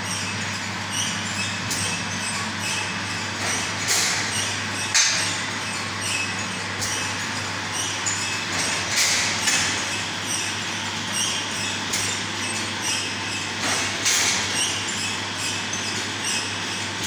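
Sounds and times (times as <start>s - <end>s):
metallic clicks and clanks of conveyor: 0.0s - 17.0s
production line machine humming: 0.0s - 17.0s.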